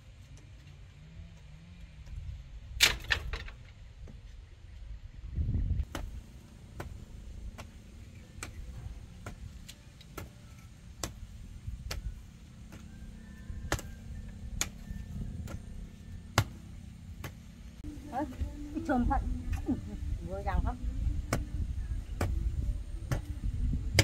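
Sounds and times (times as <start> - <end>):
low rumble: 0.9 - 24.0.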